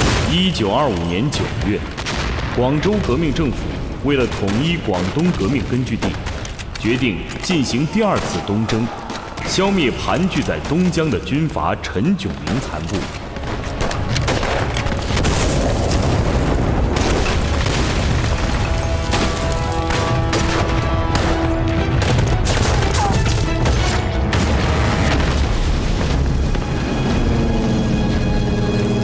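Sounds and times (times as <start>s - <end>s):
heavy explosions: 0.0s - 11.7s, 12.4s - 28.0s
dramatic orchestral music: 2.7s - 29.0s.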